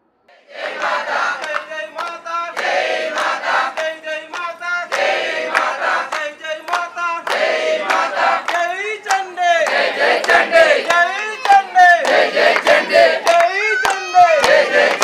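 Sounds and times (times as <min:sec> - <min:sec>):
crowd chanting in unison: 0:00.3 - 0:13.5, 0:14.3 - 0:15.0.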